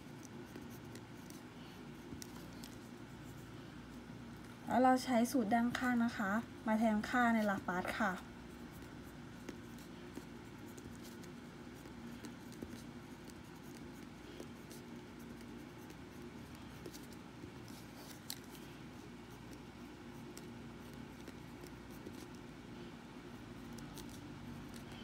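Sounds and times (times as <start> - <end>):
pen scratching on paper: 0.0 - 3.7, 6.8 - 25.0
low room hum: 0.0 - 25.0.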